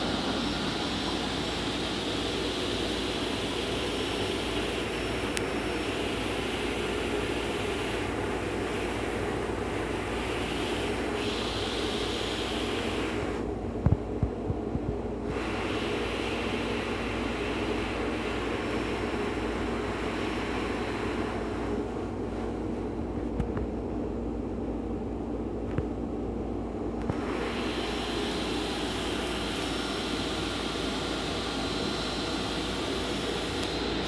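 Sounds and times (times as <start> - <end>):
machine whirring and humming: 0.0 - 34.0.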